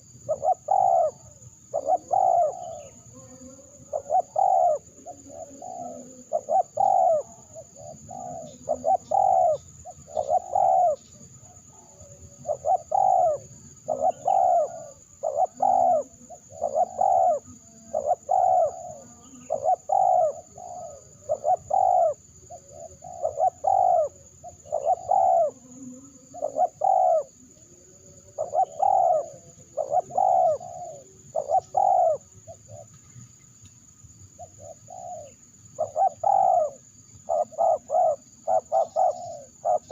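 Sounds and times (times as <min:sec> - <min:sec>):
dove cooing: 0:00.0 - 0:33.2, 0:34.3 - 0:39.9.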